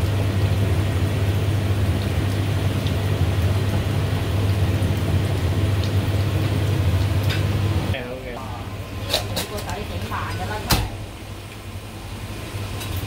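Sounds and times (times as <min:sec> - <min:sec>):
pot simmering with bubbling hiss: 0:00.0 - 0:13.0.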